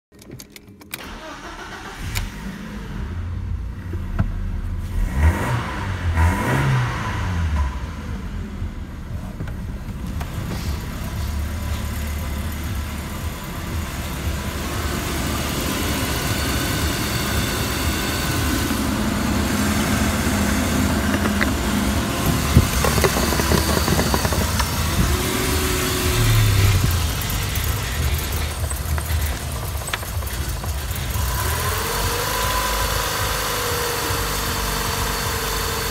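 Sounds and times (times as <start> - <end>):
car engine starting and idling: 0.2 - 35.9.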